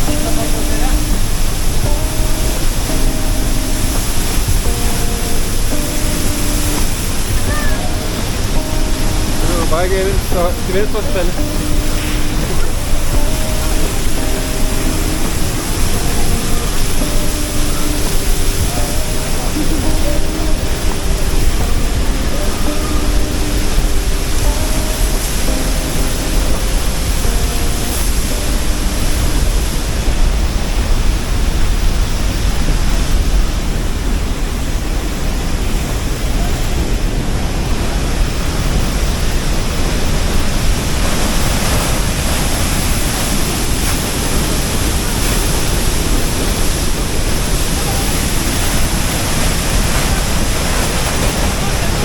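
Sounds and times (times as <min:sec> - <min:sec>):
faint steady tones: 0:00.0 - 0:52.0
waterfall roaring: 0:00.0 - 0:52.0.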